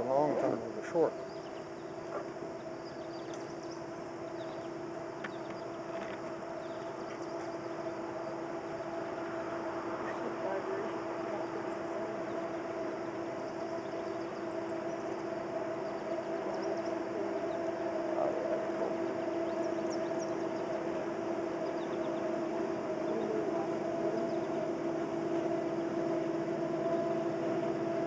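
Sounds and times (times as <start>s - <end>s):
distant diesel locomotive hum: 0.0s - 28.0s.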